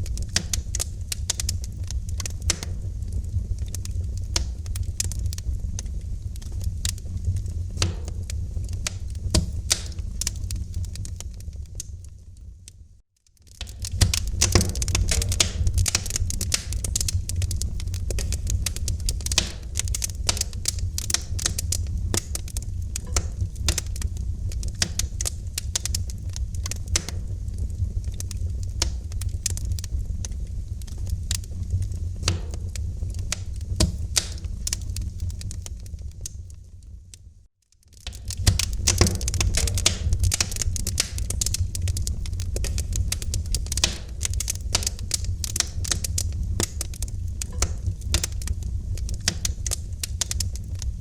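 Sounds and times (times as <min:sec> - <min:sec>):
wood fire crackling and popping: 0:00.0 - 0:51.0.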